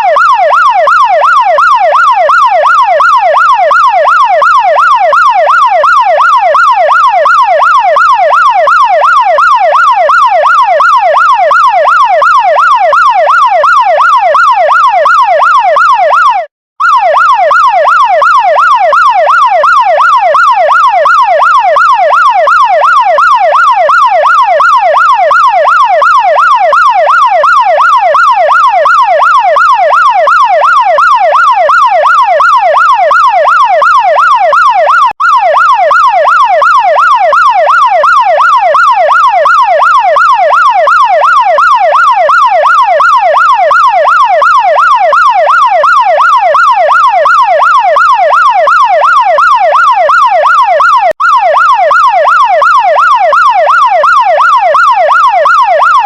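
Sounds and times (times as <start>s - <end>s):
fire engine siren yelping: 0.0s - 56.0s.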